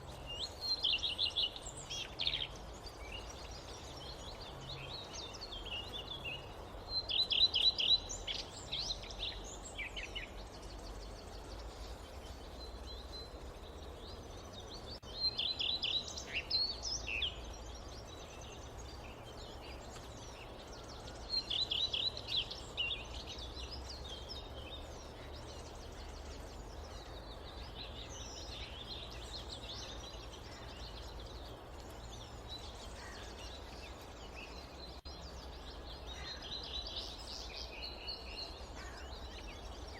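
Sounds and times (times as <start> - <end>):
songbird rapid chirping: 0.0 - 39.9.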